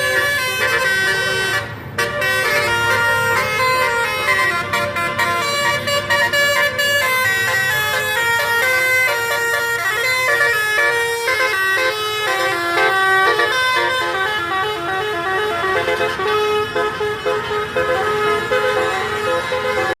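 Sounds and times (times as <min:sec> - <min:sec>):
bus air horns playing a tune: 0:00.0 - 0:20.0.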